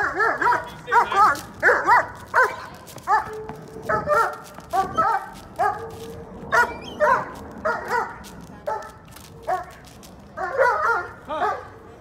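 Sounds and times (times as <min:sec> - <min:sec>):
dog barking: 0:00.0 - 0:08.9, 0:10.4 - 0:11.8.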